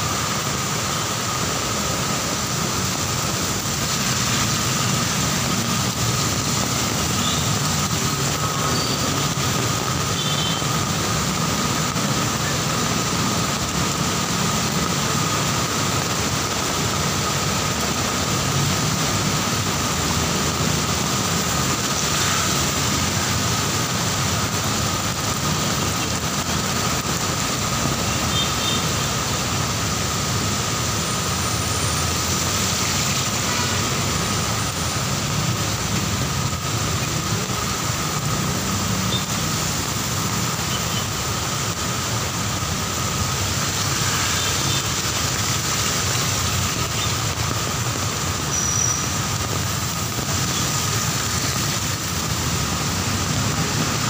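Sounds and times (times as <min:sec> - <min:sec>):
heavy rain on wet street: 0:00.0 - 0:54.0
slow-moving traffic on wet road: 0:00.0 - 0:54.0.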